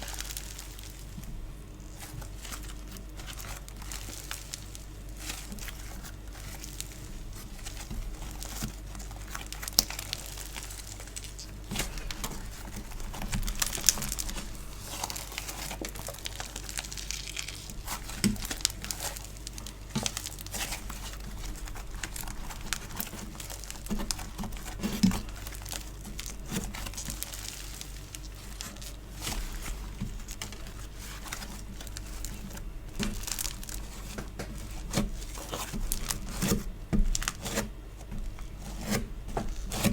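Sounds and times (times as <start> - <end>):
hands squishing sticky clay: 0.0 - 39.9.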